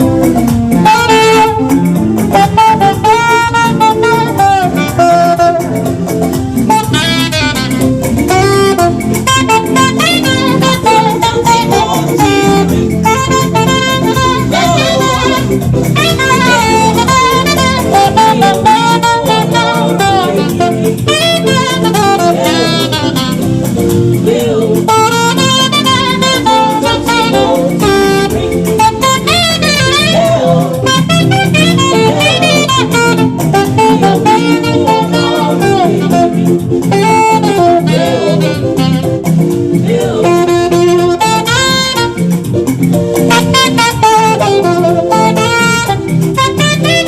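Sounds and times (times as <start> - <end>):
drum kit: 0.0 - 47.0
guitar: 0.0 - 47.0
saxophone melody: 0.0 - 47.0.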